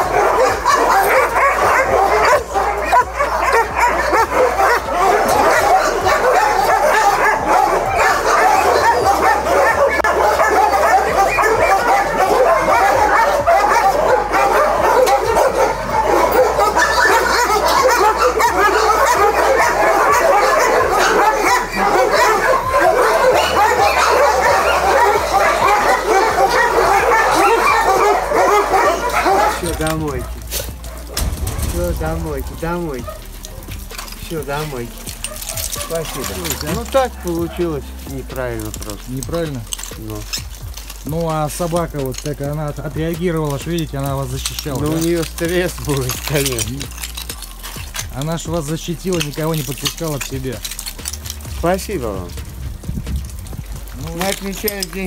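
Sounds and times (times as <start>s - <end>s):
many dogs barking and yelping: 0.0s - 55.0s.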